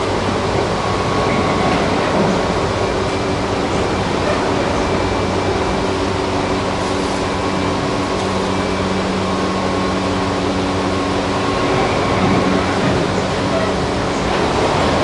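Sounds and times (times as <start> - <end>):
train wheel-on-rail rumble: 0.0 - 15.0.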